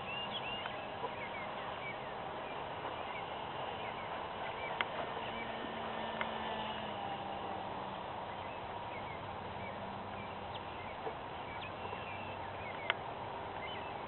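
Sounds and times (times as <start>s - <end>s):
bird chirps: 0.0s - 5.6s, 8.3s - 14.0s
outdoor background hiss: 0.0s - 14.0s.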